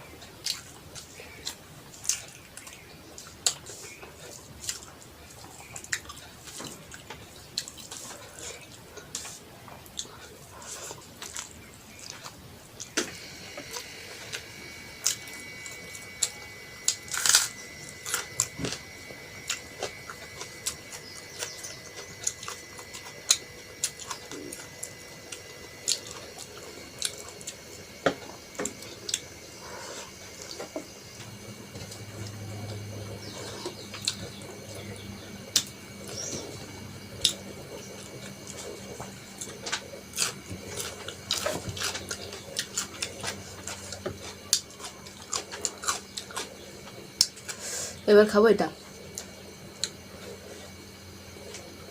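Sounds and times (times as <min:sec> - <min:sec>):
wet chewing and mouth smacks: 0:00.4 - 0:47.7.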